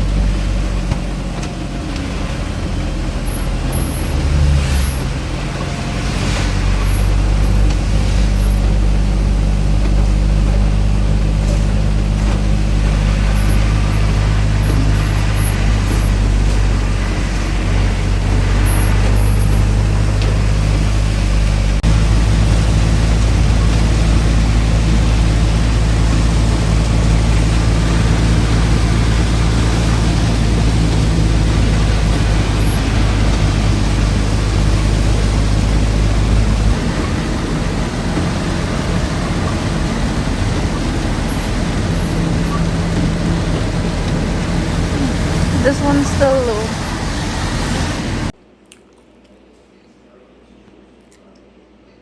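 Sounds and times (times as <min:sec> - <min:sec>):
car engine hum: 0:00.0 - 0:48.4
road noise: 0:00.0 - 0:48.4.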